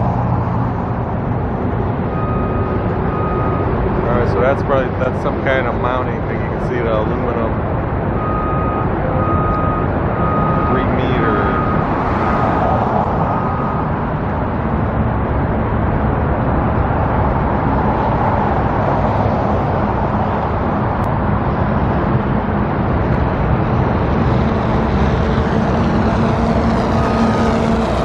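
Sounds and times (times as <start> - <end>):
road traffic: 0.0 - 28.0.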